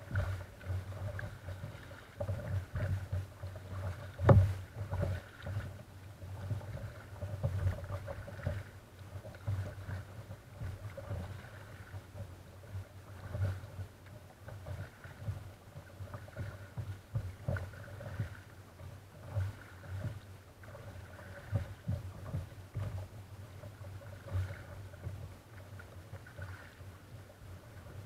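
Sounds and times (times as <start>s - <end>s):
water lapping against kayak hull: 0.0s - 28.0s.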